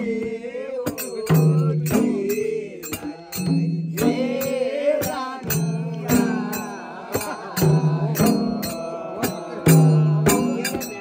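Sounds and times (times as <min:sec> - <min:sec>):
group singing: 0:00.0 - 0:11.0
hand drums playing folk rhythm: 0:00.0 - 0:11.0.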